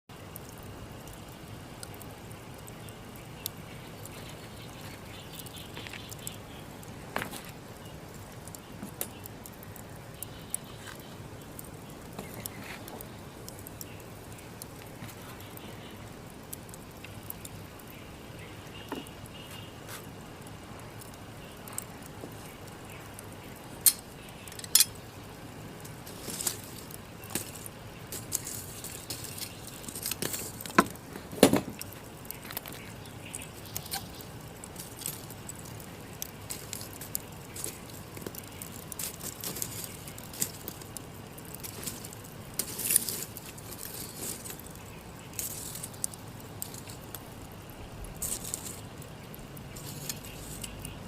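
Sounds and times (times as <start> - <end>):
embers crackling: 0.1 - 51.0
low hiss: 0.1 - 51.0
sharp pops of embers: 0.1 - 51.0.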